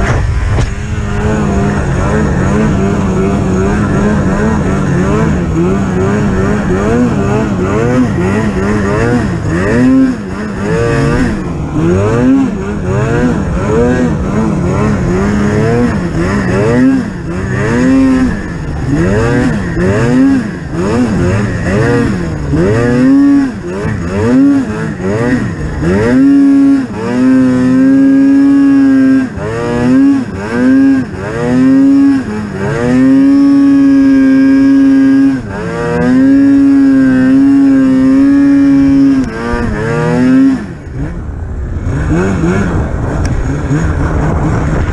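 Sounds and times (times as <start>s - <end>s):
snowmobile engine revving: 0.0s - 44.9s.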